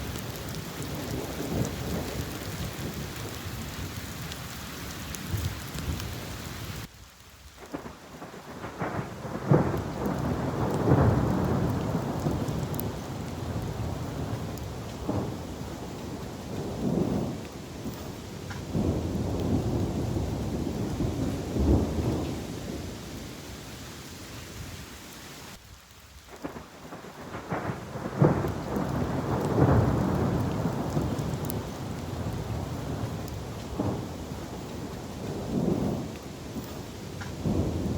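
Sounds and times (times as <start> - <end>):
thunder rumbling: 0.0 - 6.9, 7.6 - 24.6, 26.3 - 37.9
steady rain falling: 0.0 - 37.9.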